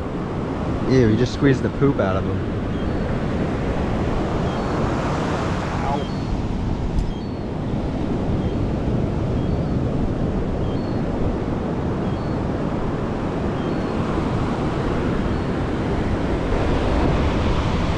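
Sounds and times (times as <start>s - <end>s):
ocean surf breaking: 0.0s - 17.9s
wind buffeting microphone: 0.0s - 17.9s.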